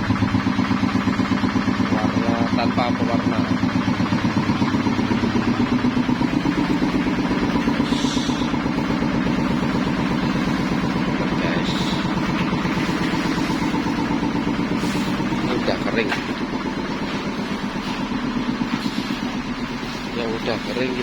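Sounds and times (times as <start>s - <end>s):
processing machine pulsing: 0.0s - 21.0s.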